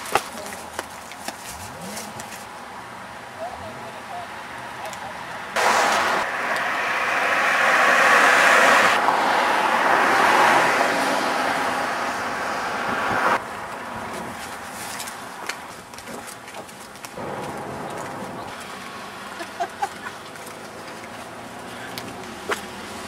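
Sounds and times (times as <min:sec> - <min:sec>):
outdoor background noise: 0:00.0 - 0:23.0
vehicles passing close by: 0:00.0 - 0:23.0.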